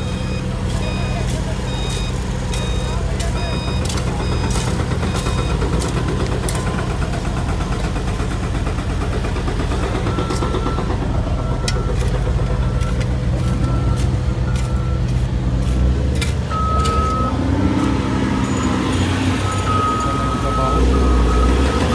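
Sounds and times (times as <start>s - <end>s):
reversing alarm beeping: 0.0s - 8.0s, 9.6s - 21.9s
heavy vehicle engine running: 0.0s - 21.9s.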